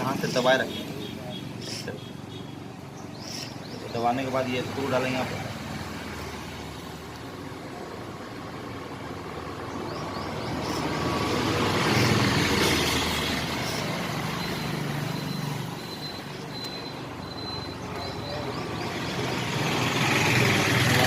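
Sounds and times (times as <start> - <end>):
steady traffic hum: 0.0 - 21.0
vehicle passing: 3.8 - 21.0.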